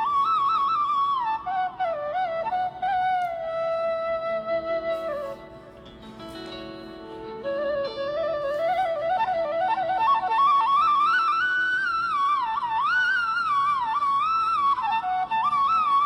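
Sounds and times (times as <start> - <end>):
flute-like melody: 0.0 - 16.0.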